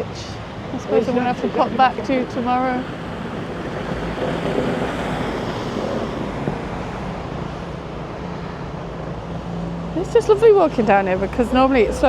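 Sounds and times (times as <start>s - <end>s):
outdoor street noise: 0.0s - 12.0s
wind on microphone: 0.0s - 12.0s.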